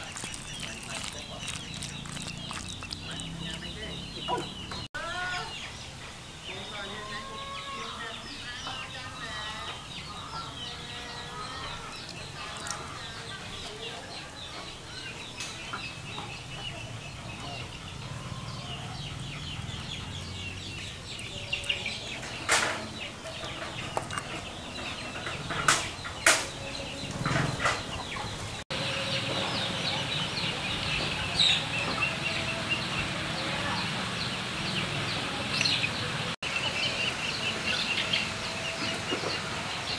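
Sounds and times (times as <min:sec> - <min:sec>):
birds chirping: 0:00.0 - 0:39.9
chickens clucking: 0:00.0 - 0:39.9.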